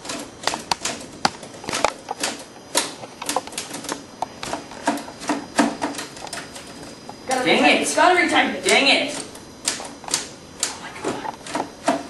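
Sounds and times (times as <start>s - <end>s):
typewriter keys clacking: 0.0s - 7.7s, 8.6s - 12.0s.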